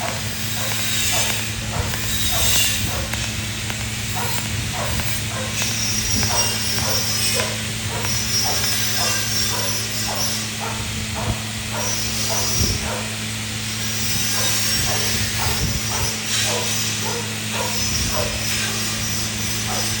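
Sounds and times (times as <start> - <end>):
welder electrical hum: 0.0 - 20.0
welding arc hissing: 0.0 - 20.0.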